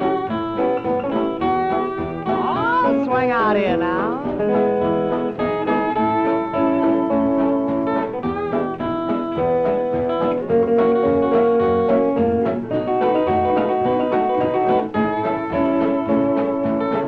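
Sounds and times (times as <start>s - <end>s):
steel guitar melody: 0.0s - 17.0s
western swing band: 0.0s - 17.0s.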